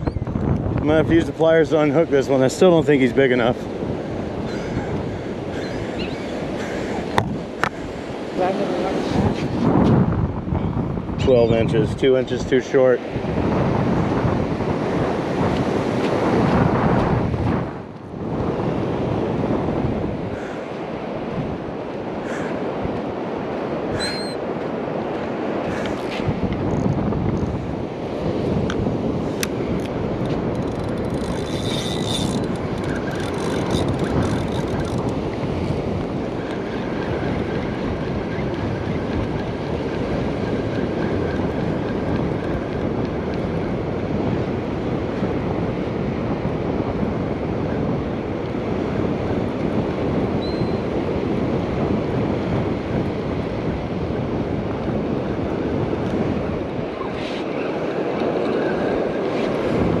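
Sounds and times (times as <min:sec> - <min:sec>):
ocean surf: 0:00.0 - 1:00.0
wind buffeting microphone: 0:00.0 - 1:00.0.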